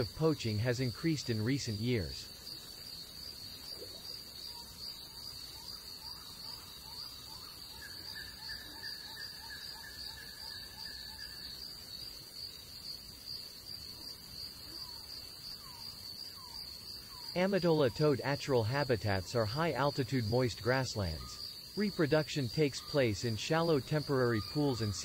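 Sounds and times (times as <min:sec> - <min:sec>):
insects trilling high: 0:00.0 - 0:25.0
lower insect trill: 0:00.0 - 0:25.0.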